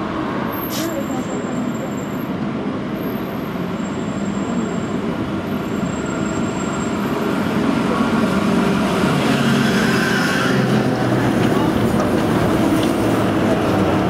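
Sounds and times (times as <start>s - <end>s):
tram approaching: 0.0s - 14.0s.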